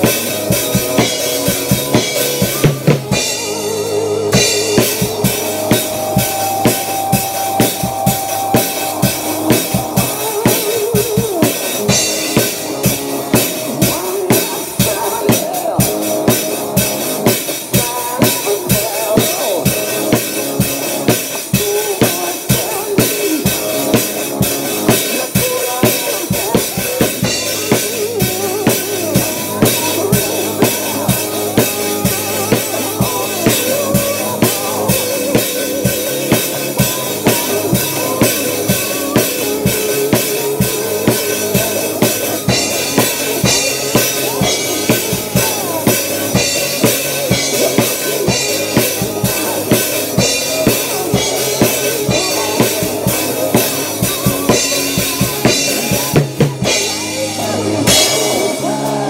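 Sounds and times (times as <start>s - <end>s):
drum kit rock beat: 0.0s - 59.0s.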